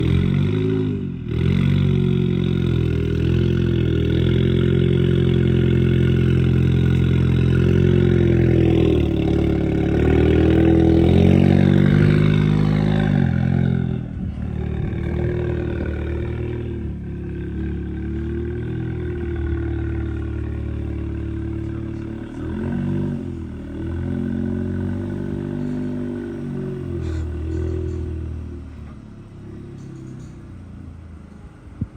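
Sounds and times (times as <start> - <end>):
car engine and exhaust running: 0.0 - 31.9.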